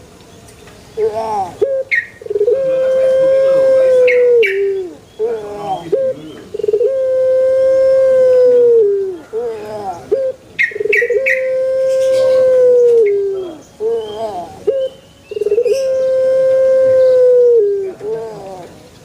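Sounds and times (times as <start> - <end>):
dove crowing call: 1.0 - 18.8.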